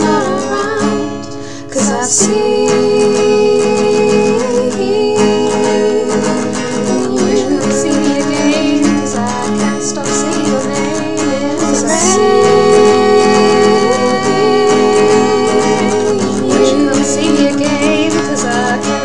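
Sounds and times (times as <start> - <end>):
acoustic guitar: 0.0 - 19.0
person singing long wavering notes: 1.8 - 19.0.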